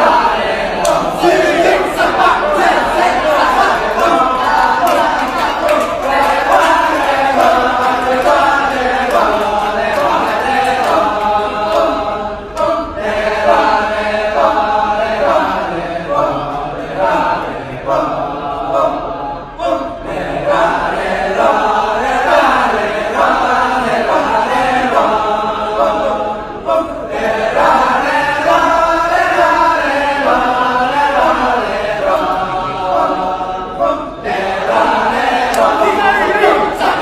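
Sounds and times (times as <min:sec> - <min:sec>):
many voices chanting in rhythm: 0:00.0 - 0:37.0.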